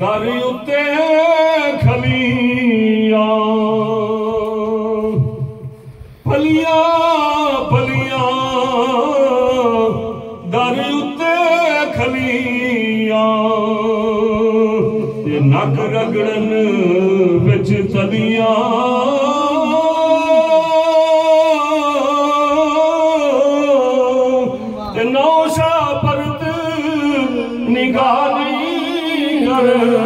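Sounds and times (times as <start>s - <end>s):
man chanting devotional melody: 0.0s - 30.0s.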